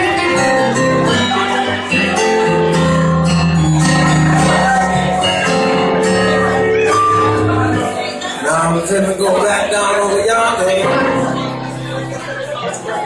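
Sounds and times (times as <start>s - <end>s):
piano held notes: 0.0s - 13.0s.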